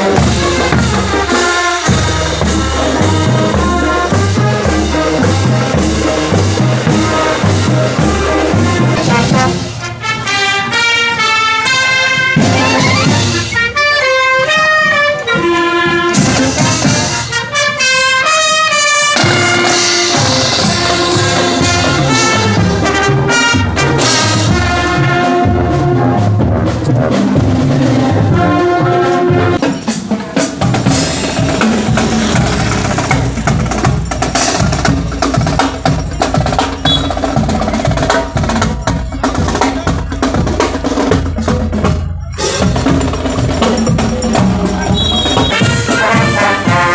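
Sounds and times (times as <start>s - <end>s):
brass instruments playing melody: 0.0s - 46.9s
steady drum beat: 0.0s - 46.9s.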